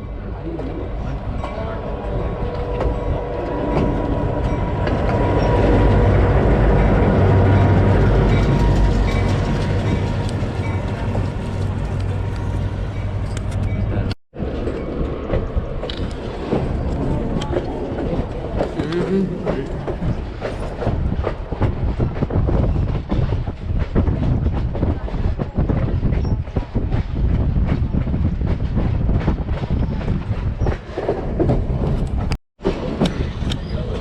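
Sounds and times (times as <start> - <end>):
train rumbling on track: 0.0 - 34.0.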